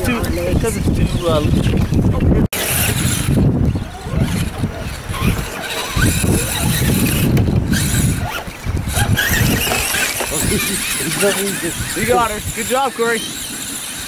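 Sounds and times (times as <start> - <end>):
tyres scrabbling on gravel: 1.4 - 14.0
small electric motor whining: 2.6 - 14.0.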